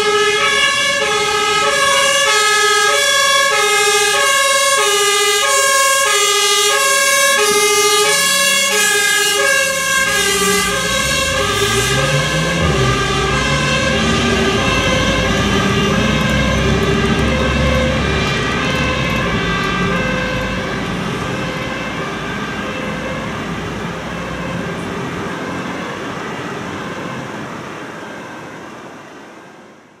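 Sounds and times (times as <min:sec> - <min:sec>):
two-tone siren: 0:00.0 - 0:29.6
vehicle engine and road noise: 0:00.0 - 0:30.0.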